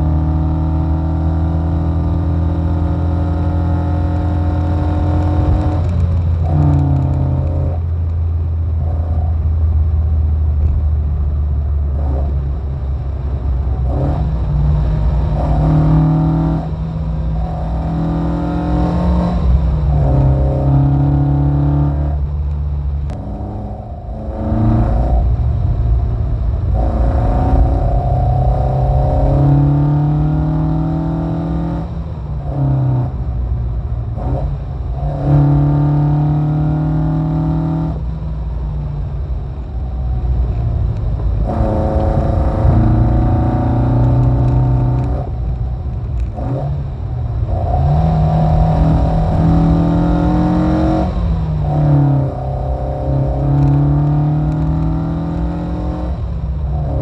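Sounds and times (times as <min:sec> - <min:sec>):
car engine revving through gears: 0:00.0 - 0:08.0, 0:08.6 - 0:09.7, 0:11.8 - 0:25.7, 0:26.4 - 0:33.4, 0:34.1 - 0:38.5, 0:40.0 - 0:57.0.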